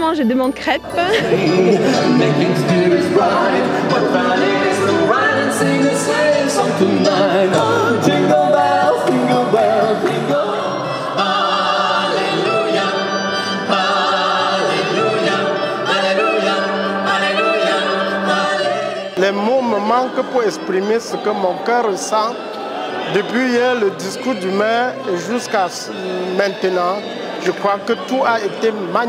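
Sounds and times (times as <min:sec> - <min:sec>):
mixed choir singing in harmony: 0:00.8 - 0:29.0.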